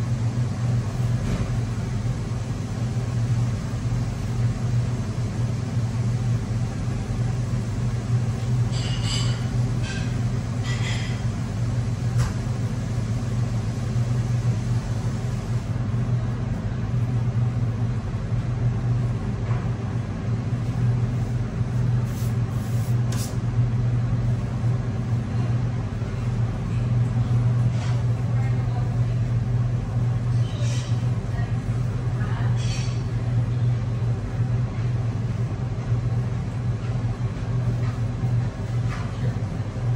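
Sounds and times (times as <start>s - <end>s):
kitchen machinery humming: 0.0s - 39.9s.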